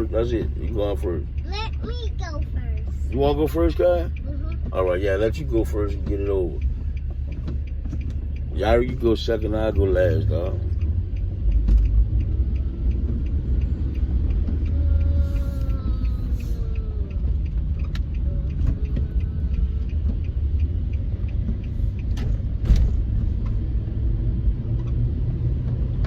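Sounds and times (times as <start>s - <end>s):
car road rumble: 0.0s - 26.0s
faint regular ticking: 0.0s - 26.0s.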